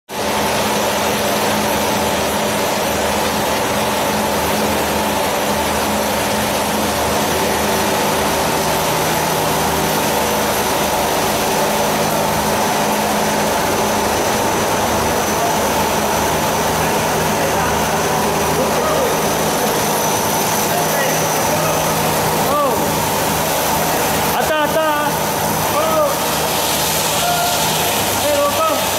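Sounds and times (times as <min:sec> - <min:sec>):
lathe machine drone: 0:00.1 - 0:28.9.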